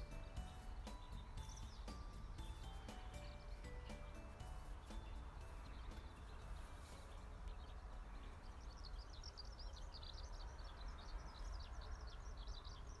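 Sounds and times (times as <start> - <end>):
bird chirping rapidly: 0.0 - 13.0
steady low rumble: 0.0 - 13.0.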